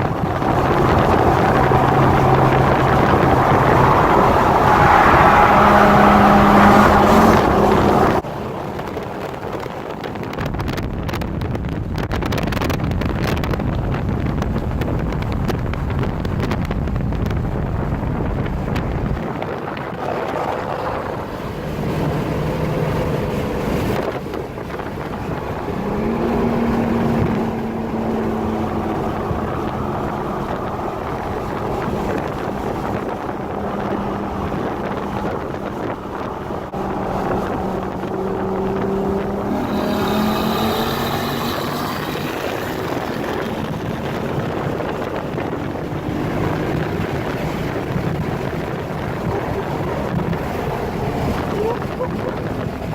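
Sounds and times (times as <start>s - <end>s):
car engine running: 0.0s - 8.2s, 13.6s - 52.9s
wind buffeting microphone: 0.0s - 52.9s.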